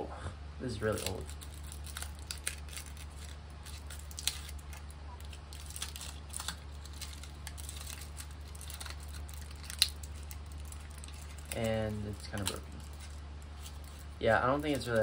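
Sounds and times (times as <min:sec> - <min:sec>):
steady low hum: 0:00.0 - 0:15.0
paper crinkling: 0:00.9 - 0:15.0.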